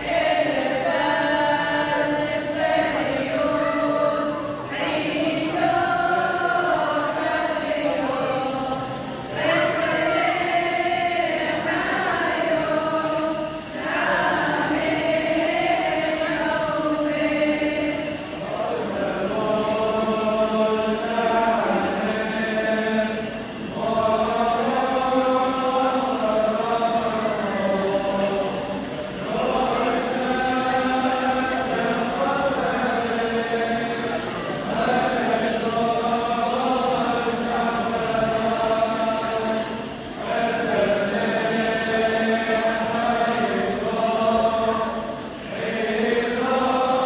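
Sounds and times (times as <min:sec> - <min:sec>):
group chanting a hymn: 0:00.0 - 0:47.0.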